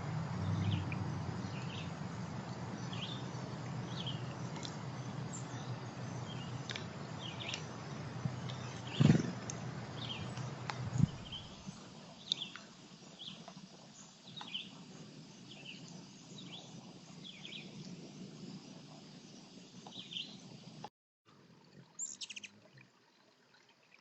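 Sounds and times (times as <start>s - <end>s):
small birds chirping: 0.0s - 20.8s, 22.0s - 22.6s
outdoor background noise: 0.0s - 24.0s.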